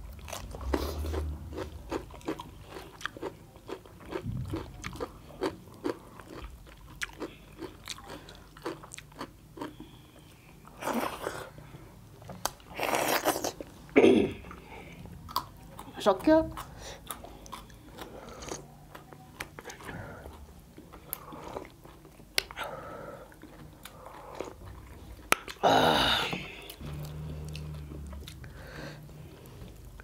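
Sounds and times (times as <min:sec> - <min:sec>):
people chewing crunchy food: 0:00.0 - 0:30.0.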